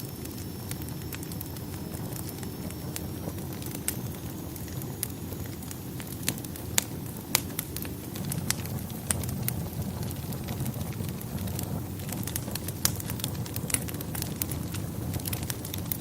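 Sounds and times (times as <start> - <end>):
fire rumbling and crackling: 0.0 - 16.0.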